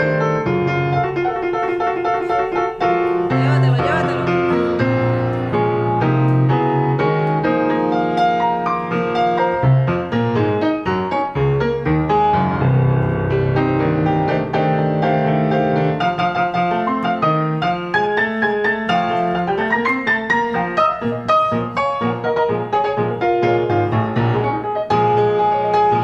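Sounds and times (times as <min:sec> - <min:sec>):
piano playing quick runs: 0:00.0 - 0:26.0.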